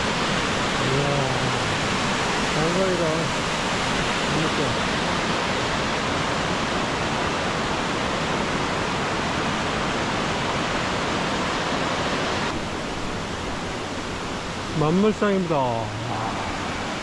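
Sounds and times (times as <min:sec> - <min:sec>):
water rushing in a stream: 0:00.0 - 0:17.0.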